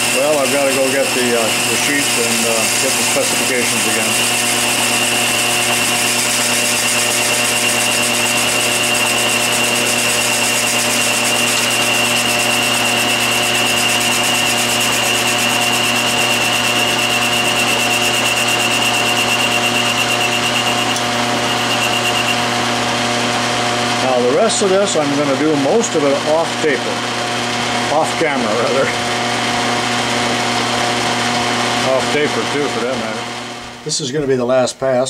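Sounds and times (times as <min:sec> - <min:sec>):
high cutting whine: 0:00.0 - 0:33.6
metal lathe motor hum: 0:00.0 - 0:33.8.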